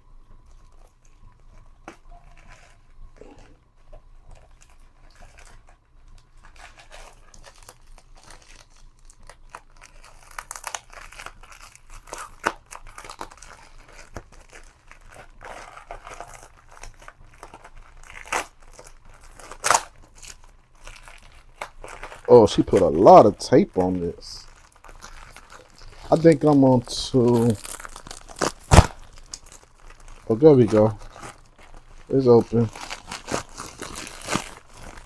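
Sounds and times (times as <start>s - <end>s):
packaging crinkling and tearing: 0.3s - 35.0s.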